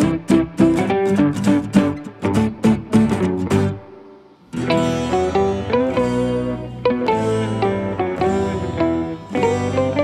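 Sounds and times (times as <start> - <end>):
plucked-string melody: 0.0 - 10.0.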